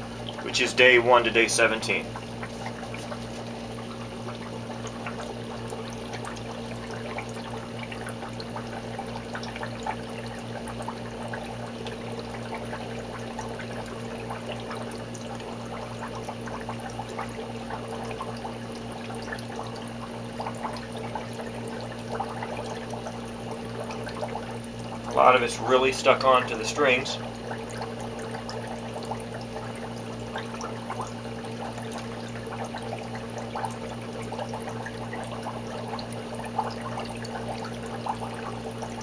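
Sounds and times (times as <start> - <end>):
pump hum: 0.0 - 39.0
water bubbling and trickling: 0.0 - 39.0.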